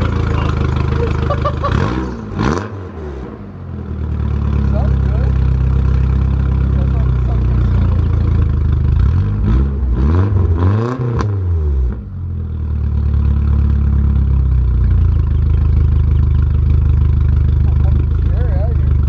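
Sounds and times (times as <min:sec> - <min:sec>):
car engine idling and revving: 0:00.0 - 0:19.0
exhaust crack: 0:00.0 - 0:19.0.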